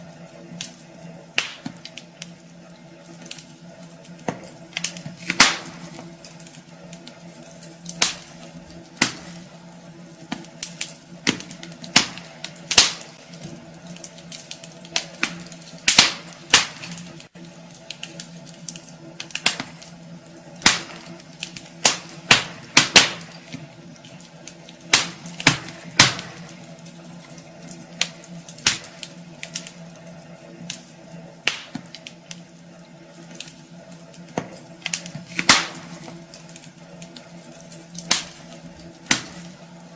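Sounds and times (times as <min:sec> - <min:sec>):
low steady hum: 0:00.0 - 0:39.9
wood fire crackling and popping: 0:00.0 - 0:39.9.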